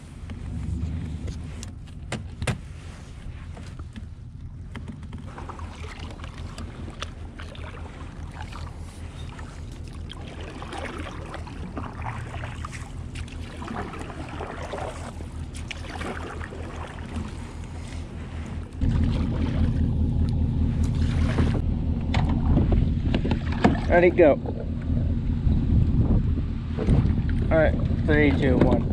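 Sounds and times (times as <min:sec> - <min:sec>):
pulsing low rumble: 0:00.0 - 0:28.9
water washing along hull: 0:00.0 - 0:28.9.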